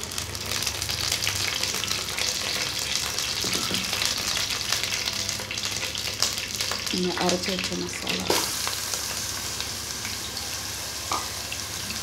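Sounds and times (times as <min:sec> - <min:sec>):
leaves frying in oil: 0:00.0 - 0:12.0.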